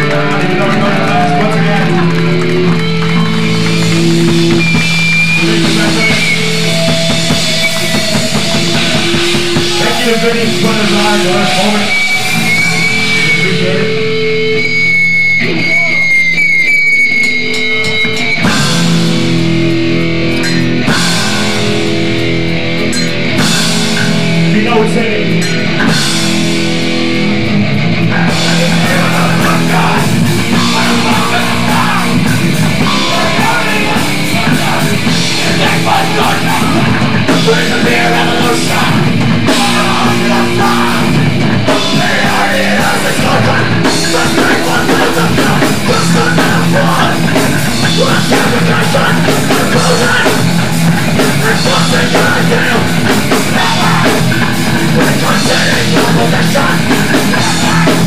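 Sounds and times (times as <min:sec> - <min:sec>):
hardcore punk band playing: 0:00.0 - 0:58.0.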